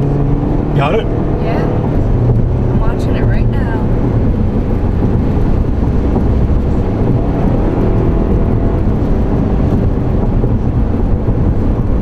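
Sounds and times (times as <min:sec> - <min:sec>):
car engine rumble: 0:00.0 - 0:12.0
road noise: 0:00.0 - 0:12.0
wind: 0:00.0 - 0:12.0.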